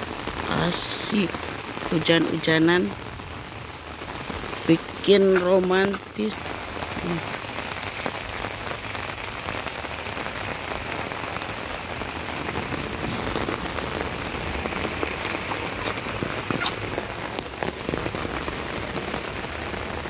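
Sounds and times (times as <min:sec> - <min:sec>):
rain on an umbrella: 0:00.0 - 0:20.0.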